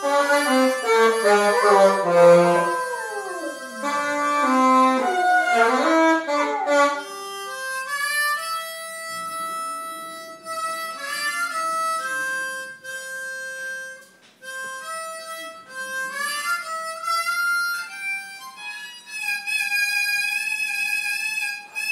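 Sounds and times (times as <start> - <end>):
harmonica playing: 0.0 - 21.9.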